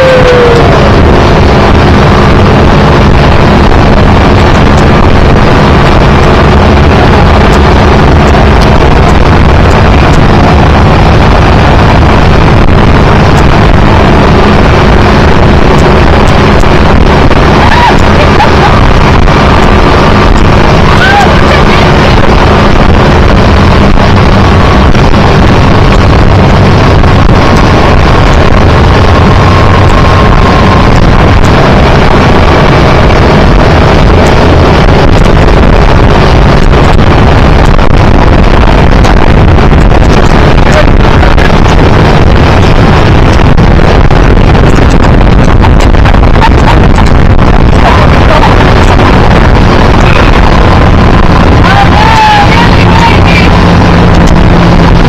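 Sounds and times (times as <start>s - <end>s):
motorboat engine hum: 0.0s - 55.0s
water rushing from wake: 0.0s - 55.0s
wind buffeting microphone: 0.0s - 55.0s.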